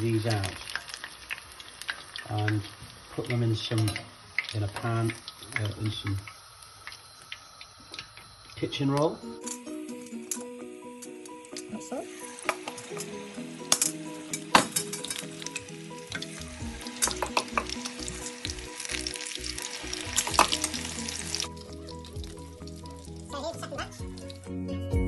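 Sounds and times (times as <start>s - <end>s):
fritters deep-frying in oil: 0.0s - 9.2s, 11.6s - 24.5s.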